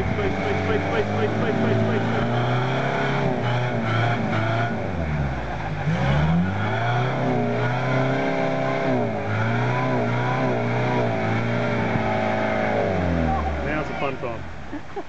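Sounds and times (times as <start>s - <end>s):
engine revving under load: 0.0s - 14.5s.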